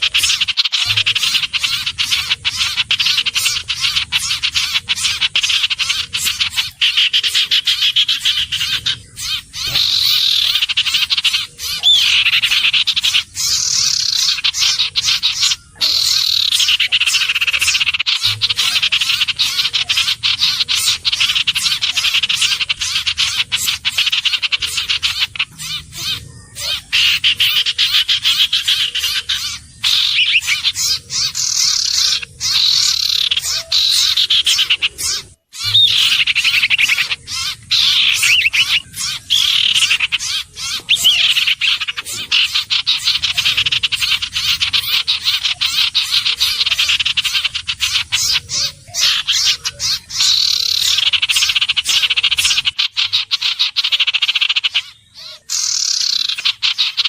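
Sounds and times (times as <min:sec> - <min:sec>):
bird chattering trills: 0:00.0 - 0:57.0.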